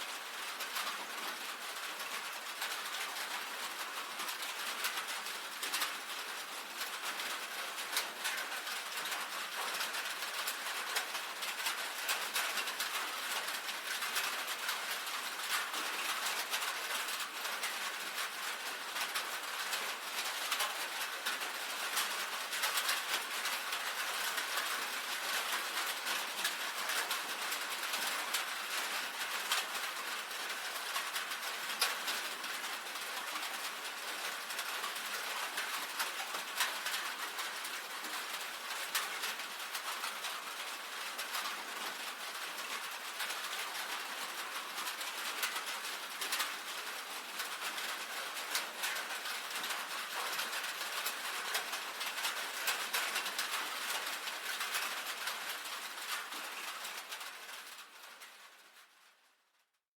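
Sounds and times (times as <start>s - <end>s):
rain on a tin roof: 0.0s - 59.8s.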